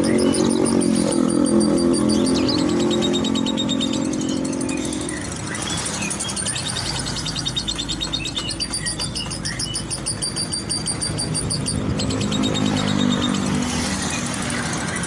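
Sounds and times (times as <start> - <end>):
lovebird chattering chirps: 0.0 - 15.0.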